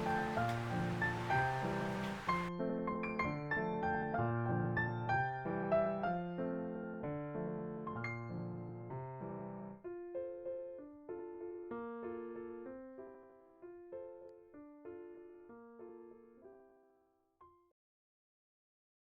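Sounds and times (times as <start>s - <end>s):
gentle piano melody: 0.0s - 17.7s.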